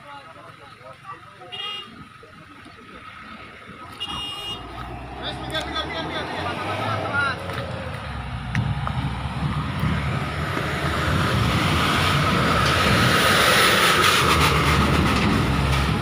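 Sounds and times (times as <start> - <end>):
diesel truck driving by: 0.0 - 16.0.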